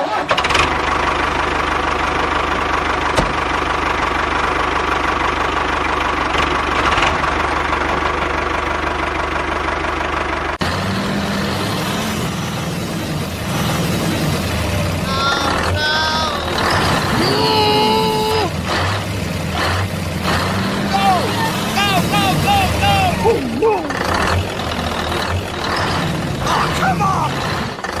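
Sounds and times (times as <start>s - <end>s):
different engine sound: 0.0s - 28.0s
engine idling with rapid beat: 0.5s - 11.0s, 14.5s - 28.0s.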